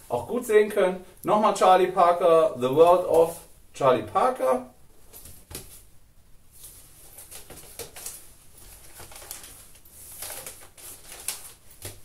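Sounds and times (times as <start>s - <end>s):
plastic sleeves rustling: 0.0s - 3.6s, 4.9s - 12.0s.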